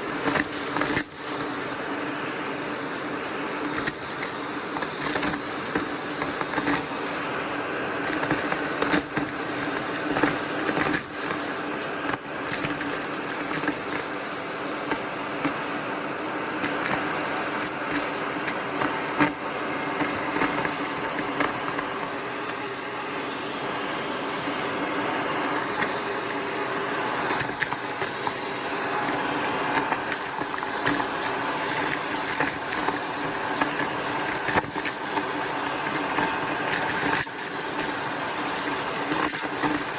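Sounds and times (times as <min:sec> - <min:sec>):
debris crackling through vacuum tool: 0:00.0 - 0:39.9
vacuum cleaner motor hum: 0:00.0 - 0:39.9.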